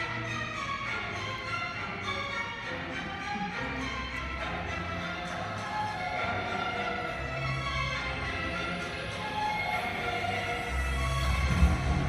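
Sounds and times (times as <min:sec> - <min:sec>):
orchestral music with violin lead: 0:00.0 - 0:12.0.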